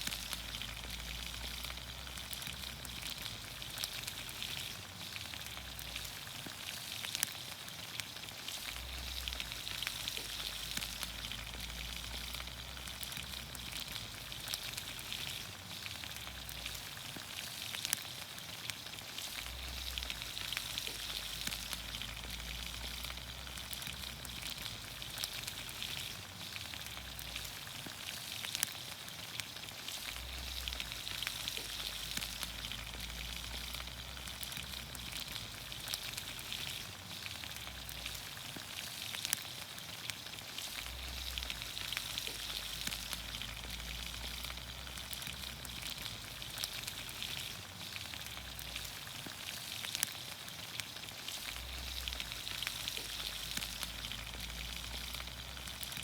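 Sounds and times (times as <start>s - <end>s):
vegetables sizzling in a pan: 0.0s - 56.0s.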